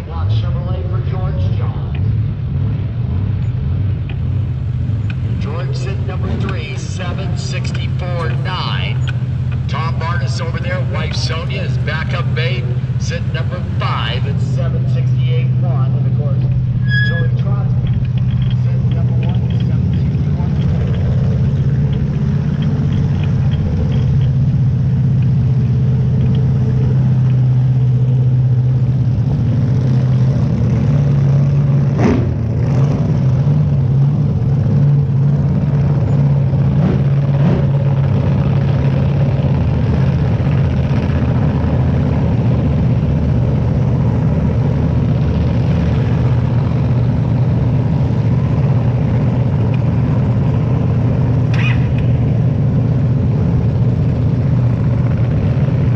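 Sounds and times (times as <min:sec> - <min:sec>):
dragster engine idling: 0:00.0 - 0:55.9.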